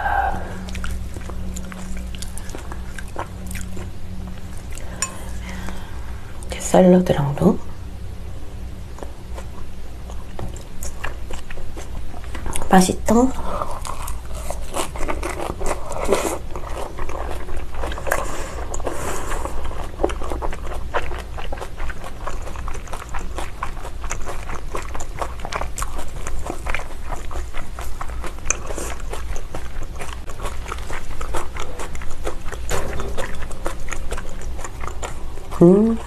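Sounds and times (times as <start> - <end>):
wet chewing with mouth clicks: 0.4 - 6.6, 8.9 - 36.0.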